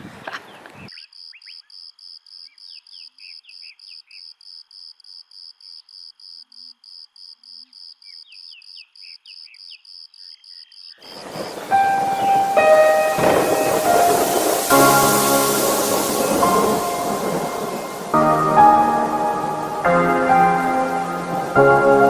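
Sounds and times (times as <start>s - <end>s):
insects chirping: 0.9s - 21.4s.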